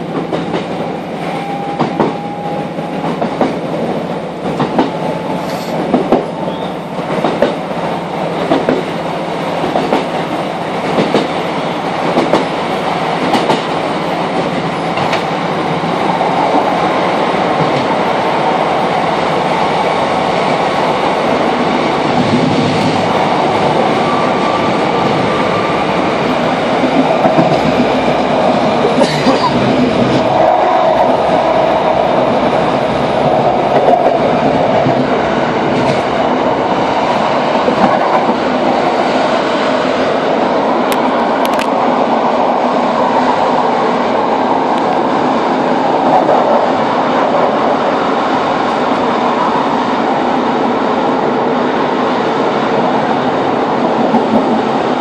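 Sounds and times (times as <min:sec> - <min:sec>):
train rumble of engine and rails: 0:00.0 - 0:55.0.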